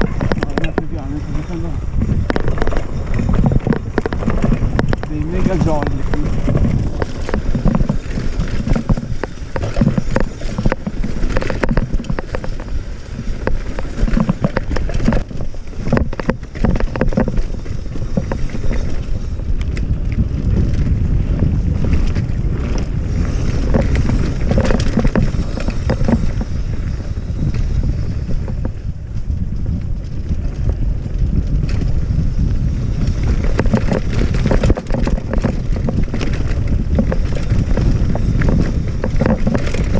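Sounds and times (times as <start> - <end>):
tyres crunching over stones: 0.0 - 28.8, 32.9 - 39.9
bike clattering over bumps: 0.0 - 39.9
wind rush on microphone: 0.0 - 39.9.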